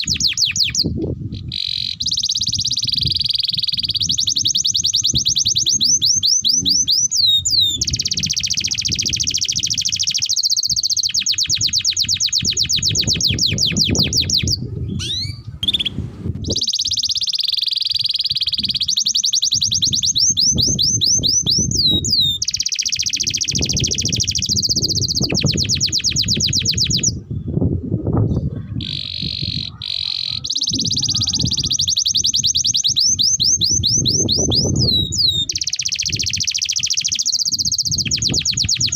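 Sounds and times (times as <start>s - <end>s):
canary singing rolling trills: 0.0s - 27.3s, 28.3s - 38.9s.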